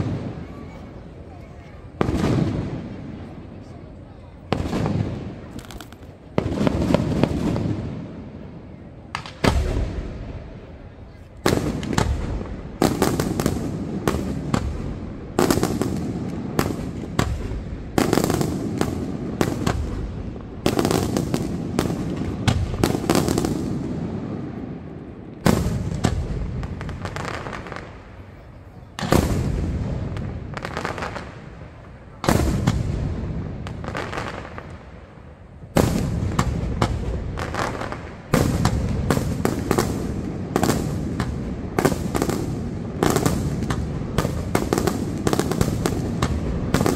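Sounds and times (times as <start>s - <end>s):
fireworks bursting: 0.0s - 46.9s.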